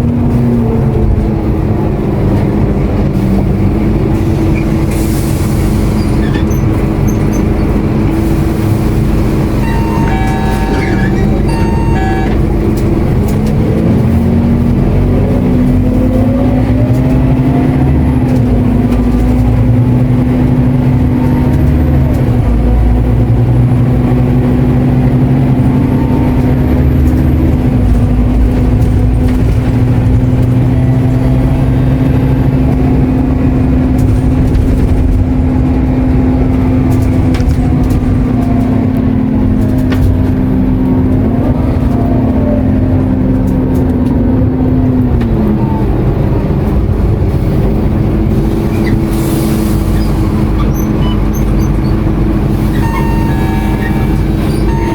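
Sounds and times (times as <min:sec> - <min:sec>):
bus engine and driveline whine: 0:00.0 - 0:54.9.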